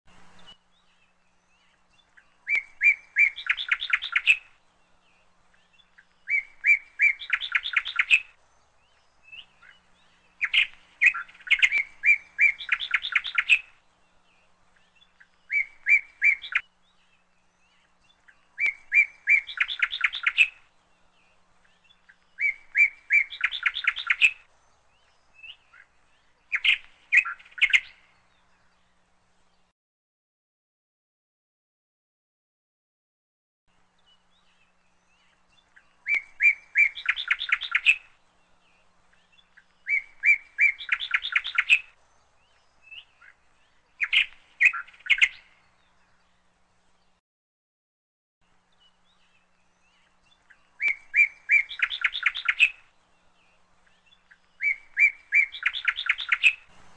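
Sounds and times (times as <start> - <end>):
bird singing chirps and trills: 0.1 - 29.7, 33.7 - 47.2, 48.4 - 56.9.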